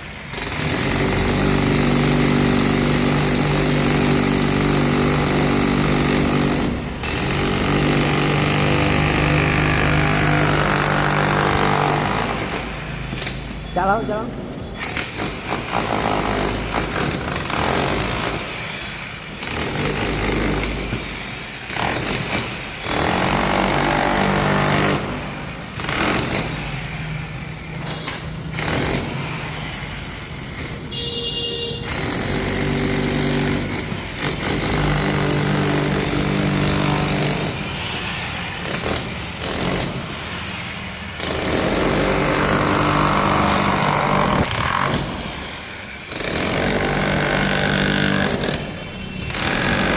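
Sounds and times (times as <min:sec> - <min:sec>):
demolition hammer breaking concrete: 0:00.3 - 0:13.7, 0:14.7 - 0:18.6, 0:19.4 - 0:26.8, 0:28.4 - 0:29.4, 0:31.9 - 0:37.8, 0:38.6 - 0:40.3, 0:41.2 - 0:49.9.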